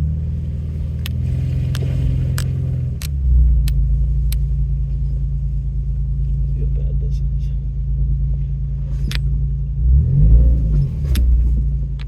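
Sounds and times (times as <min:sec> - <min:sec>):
off-road vehicle engine rumbling: 0:00.0 - 0:12.0.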